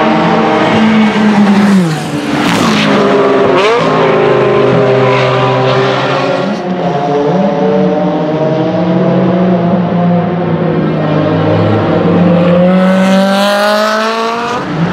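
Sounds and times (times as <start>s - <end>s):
race car engine revving: 0.0s - 14.9s.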